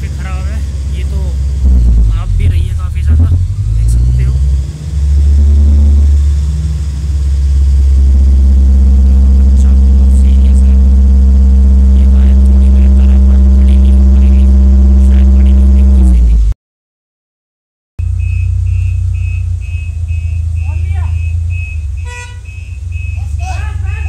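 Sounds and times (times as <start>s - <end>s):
truck engine idling: 0.0s - 16.4s, 18.0s - 24.0s.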